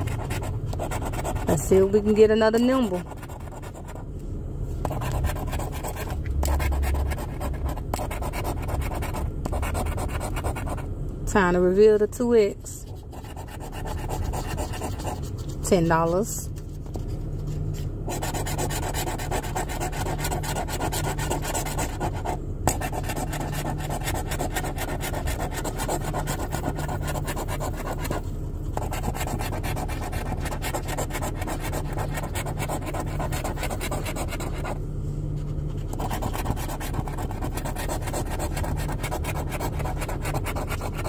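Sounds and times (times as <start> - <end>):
coin scratching lottery ticket: 0.0 - 4.0, 4.8 - 10.8, 12.7 - 16.4, 18.0 - 34.8, 35.7 - 41.0.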